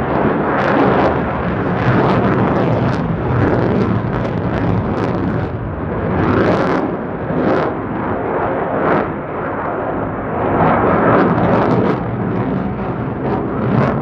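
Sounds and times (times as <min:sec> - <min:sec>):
jet engine roaring overhead: 0:00.0 - 0:14.0.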